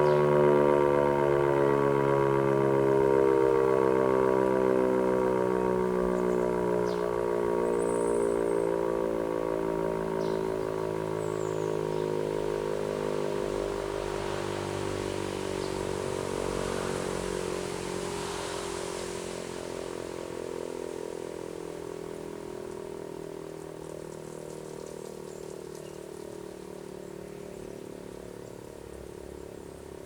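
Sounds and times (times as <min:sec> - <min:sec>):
siren winding down: 0:00.0 - 0:26.6.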